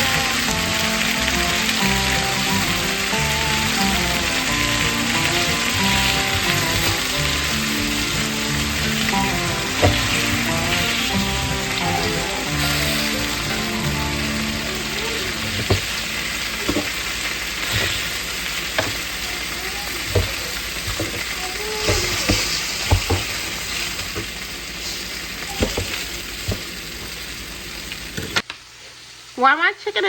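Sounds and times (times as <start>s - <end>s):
oil popping and crackling: 0.0s - 28.6s
chicken sizzling in oil: 0.0s - 30.0s.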